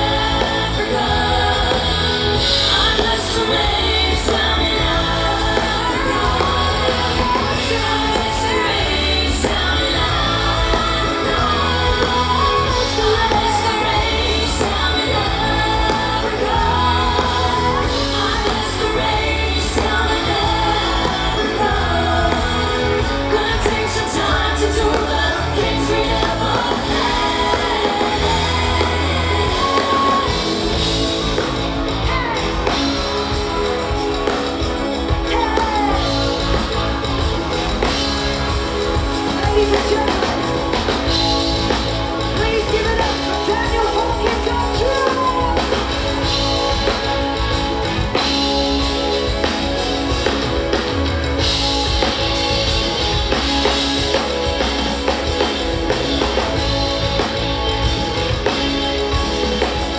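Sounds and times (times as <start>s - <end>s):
drum kit: 0.0s - 59.9s
electric guitars: 0.0s - 59.9s
person singing: 0.0s - 59.9s.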